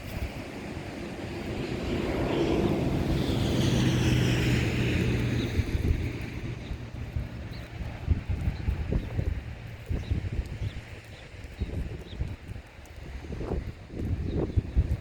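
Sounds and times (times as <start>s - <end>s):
wind gusting over microphone: 0.0s - 15.0s.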